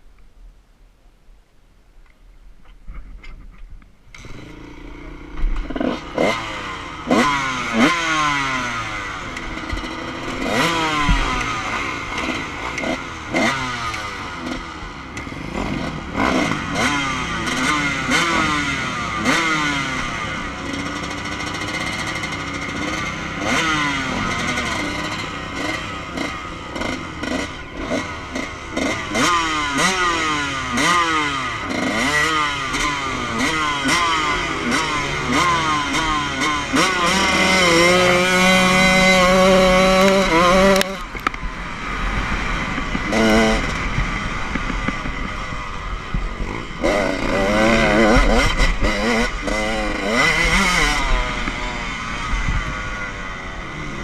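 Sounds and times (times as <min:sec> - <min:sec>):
dirt bike engine revving: 0:04.1 - 0:54.0.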